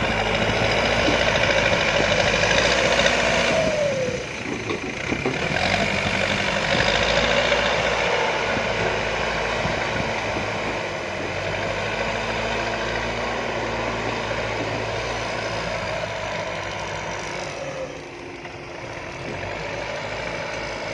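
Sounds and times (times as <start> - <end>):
diesel machinery engines running: 0.0 - 20.9.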